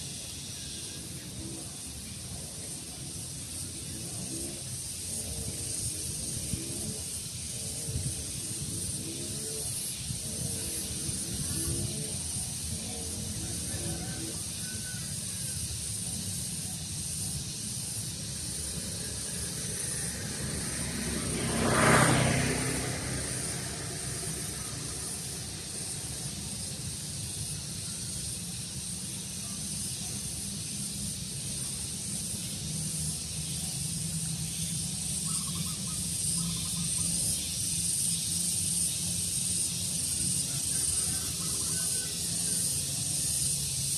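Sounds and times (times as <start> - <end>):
high hiss: 0.0 - 43.9.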